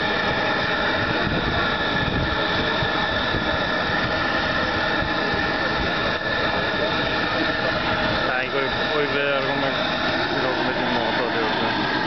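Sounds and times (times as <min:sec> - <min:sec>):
propane torch burning: 0:00.0 - 0:12.0.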